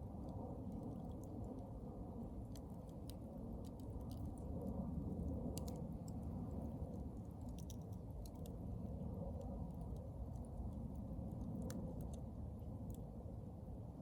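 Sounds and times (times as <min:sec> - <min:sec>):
low rumble of flame: 0:00.0 - 0:14.0.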